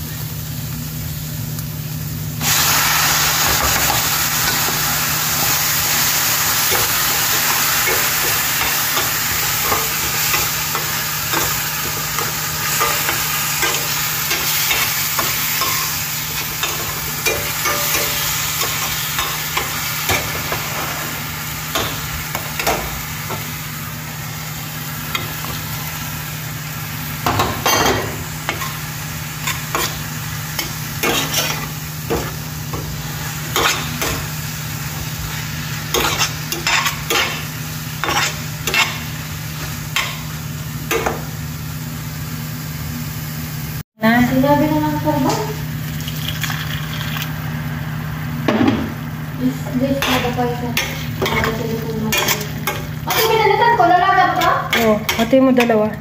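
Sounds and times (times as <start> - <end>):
rice and vegetables sizzling: 0.0 - 56.0.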